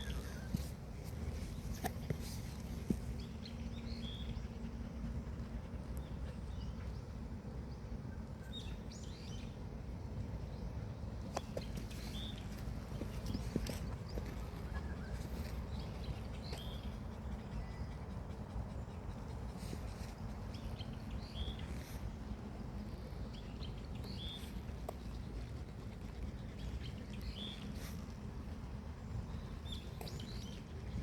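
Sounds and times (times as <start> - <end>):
small birds chirping: 0.0 - 9.6, 10.5 - 31.0.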